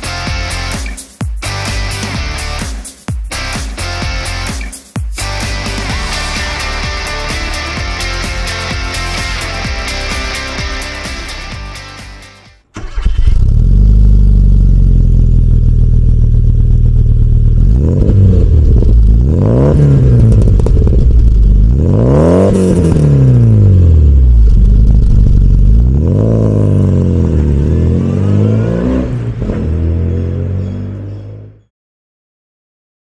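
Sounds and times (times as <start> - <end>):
car engine idling and revving: 5.2 - 31.7.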